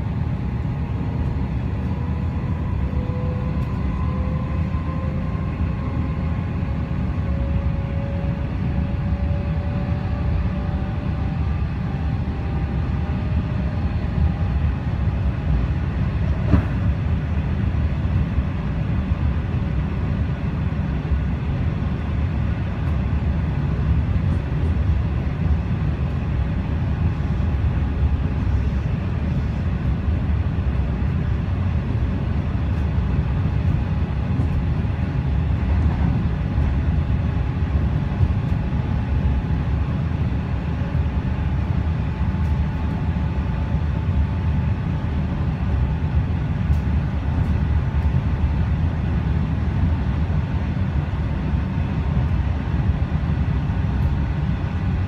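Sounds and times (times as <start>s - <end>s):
train wheels rumbling on track: 0.0s - 52.6s.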